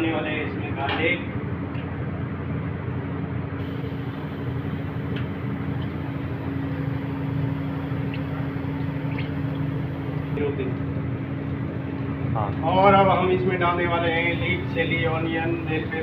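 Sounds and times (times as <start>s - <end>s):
kitchen machinery hum: 0.0s - 16.0s.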